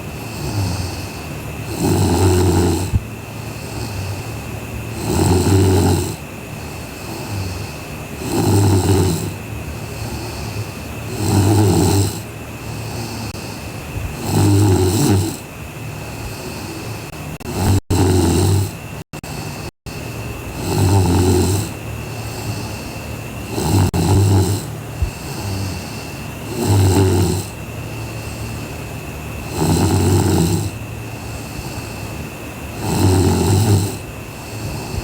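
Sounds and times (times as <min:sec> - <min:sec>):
woman snoring: 0:00.0 - 0:28.8, 0:29.4 - 0:35.0.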